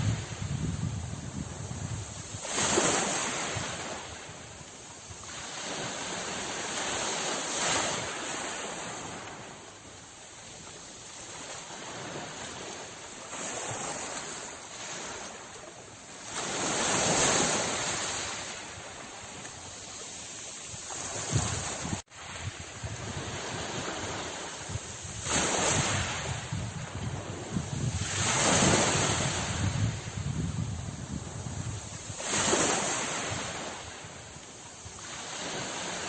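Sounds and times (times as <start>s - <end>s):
sea waves washing onto shore: 0.0s - 36.0s.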